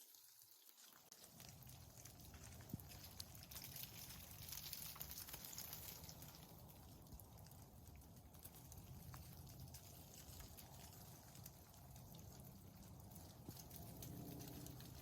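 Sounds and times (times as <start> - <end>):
ice-coated branches clicking: 0.0 - 15.0.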